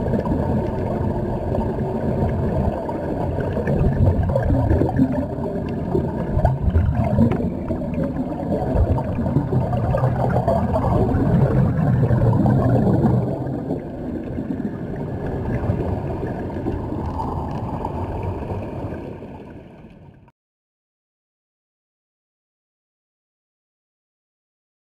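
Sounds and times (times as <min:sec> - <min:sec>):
low underwater rumble: 0:00.0 - 0:20.3
underwater bubbles gurgling: 0:00.0 - 0:20.3.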